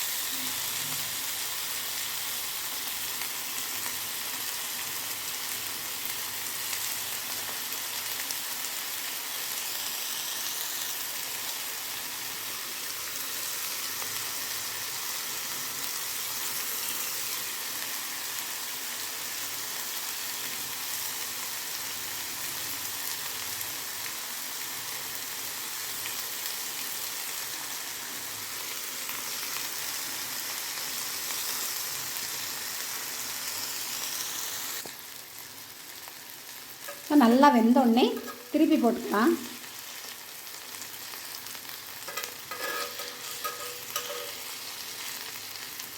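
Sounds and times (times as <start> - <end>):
chicken sizzling in hot oil: 0.0 - 45.9.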